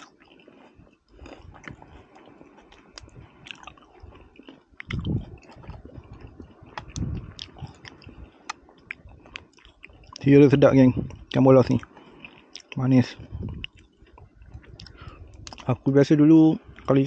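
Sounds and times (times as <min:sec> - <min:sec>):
person chewing crisp fried fish: 0:00.0 - 0:15.9.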